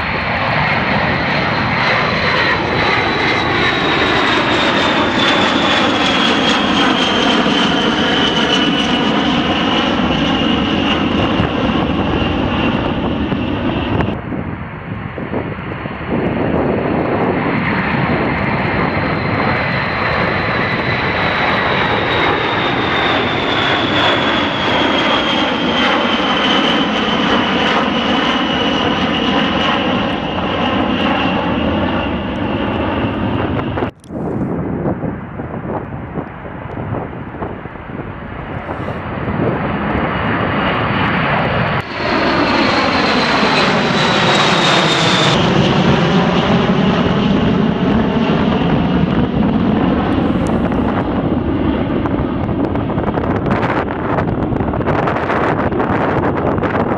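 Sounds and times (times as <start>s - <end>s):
jet aircraft engines whining: 0.0s - 56.9s.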